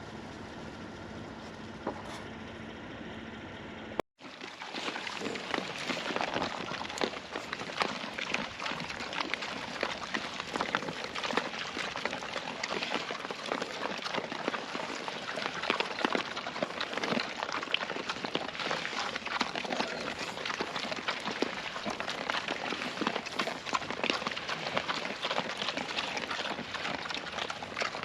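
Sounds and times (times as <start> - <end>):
piglets rustling in litter: 4.2 - 28.0.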